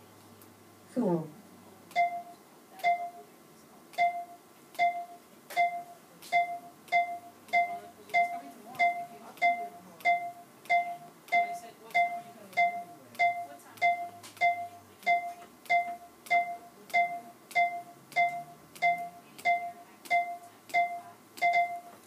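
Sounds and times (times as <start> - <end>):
chiropractic instrument tapping: 4.0 - 22.0.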